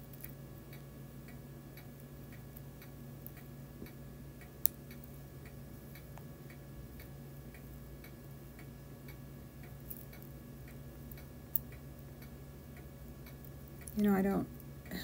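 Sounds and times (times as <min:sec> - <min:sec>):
low steady hum: 0:00.0 - 0:15.0
clock ticking: 0:00.2 - 0:15.0.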